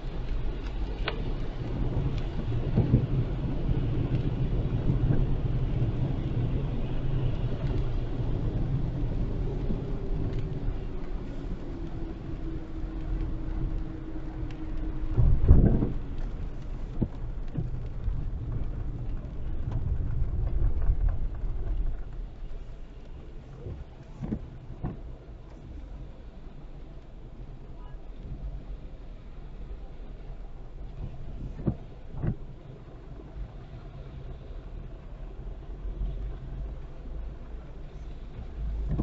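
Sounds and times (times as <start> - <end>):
car driving on wet road: 0.0 - 39.0
heavy rain: 0.0 - 39.0.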